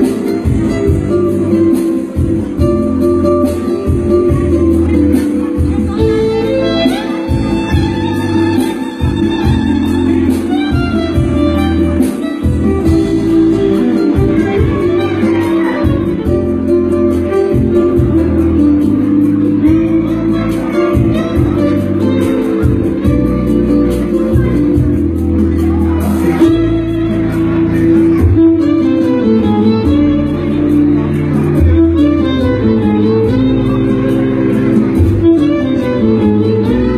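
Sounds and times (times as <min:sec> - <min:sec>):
backing track with bass and beat: 0:00.0 - 0:36.9
instrumental music with plucked strings: 0:00.0 - 0:36.9
violin melody: 0:00.0 - 0:36.9.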